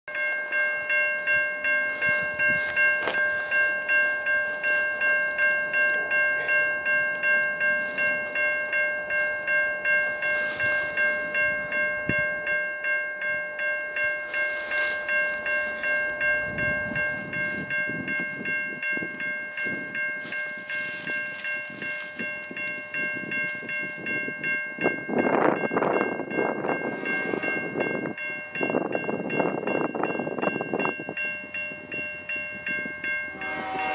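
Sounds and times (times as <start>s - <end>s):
level crossing bell ringing: 0.1s - 33.9s
train approaching: 0.1s - 33.9s.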